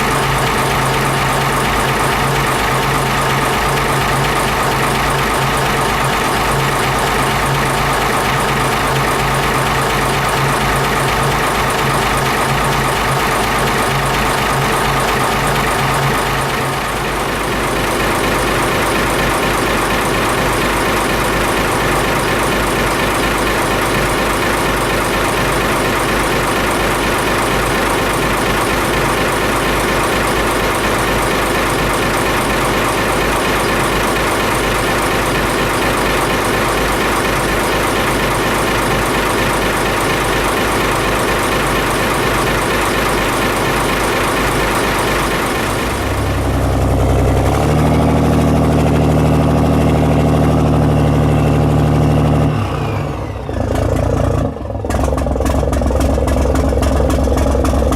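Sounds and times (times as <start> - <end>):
marine diesel engine clattering: 0.0 - 57.9.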